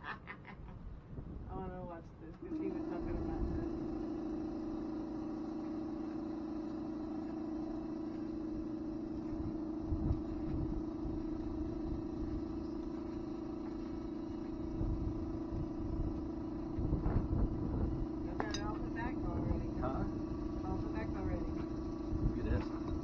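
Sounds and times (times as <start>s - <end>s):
low rumble: 1.1s - 23.0s
motor running steadily: 1.2s - 23.0s.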